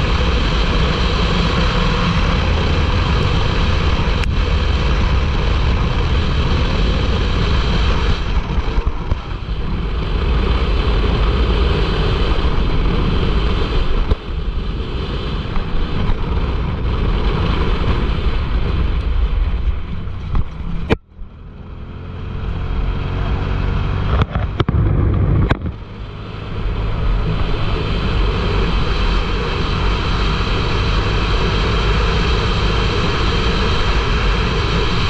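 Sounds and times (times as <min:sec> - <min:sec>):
vehicle engine running: 0:00.0 - 0:35.0
wind: 0:00.0 - 0:35.0.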